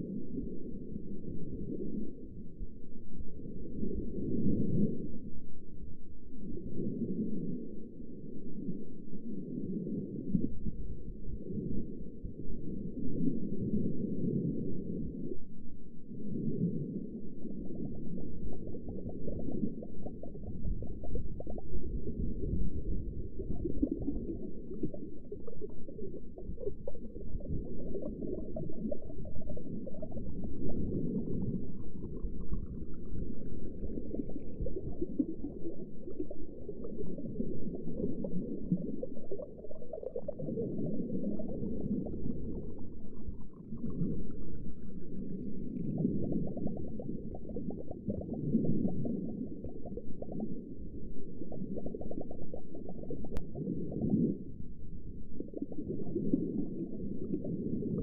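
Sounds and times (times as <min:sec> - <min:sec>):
underwater bubbling and gurgling: 0:00.0 - 0:58.0.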